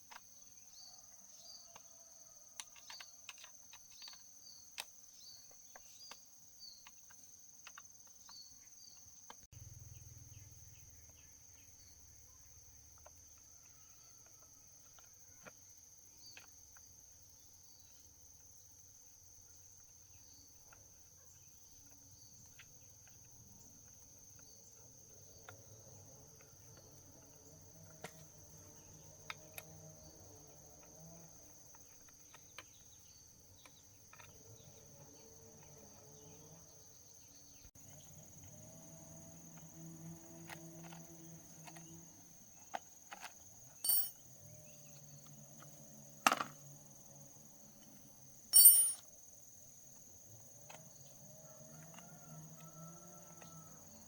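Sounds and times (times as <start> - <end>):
cricket trill: 0.0 - 54.0.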